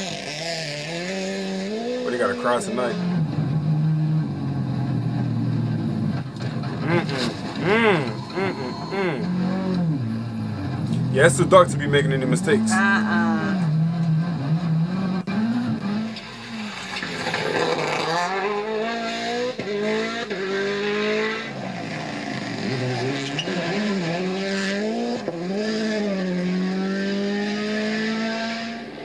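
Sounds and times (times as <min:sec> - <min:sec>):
rally car engine revving: 0:00.0 - 0:08.1, 0:08.8 - 0:29.0.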